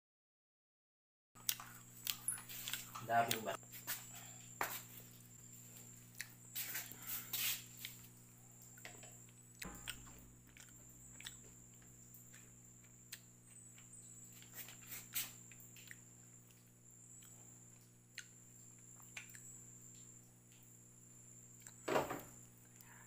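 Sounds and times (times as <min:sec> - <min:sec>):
low steady hum: 0:01.4 - 0:23.0.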